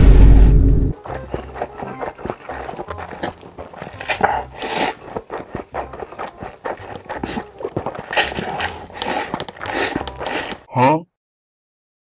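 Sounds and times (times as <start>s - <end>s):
slurping and chewing noodles: 1.0s - 10.7s.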